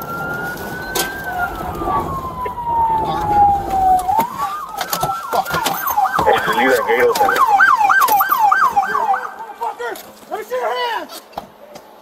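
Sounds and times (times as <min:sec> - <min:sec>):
police siren wailing and yelping: 0:00.0 - 0:09.7.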